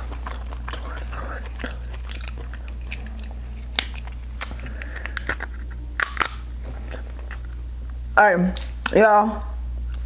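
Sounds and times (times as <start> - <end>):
wet chewing: 0.0 - 9.0.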